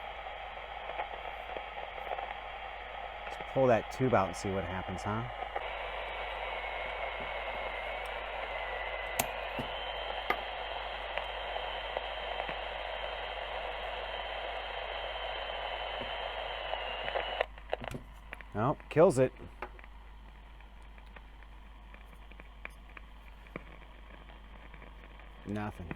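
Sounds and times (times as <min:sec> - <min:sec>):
radio static hiss: 0:00.0 - 0:25.9.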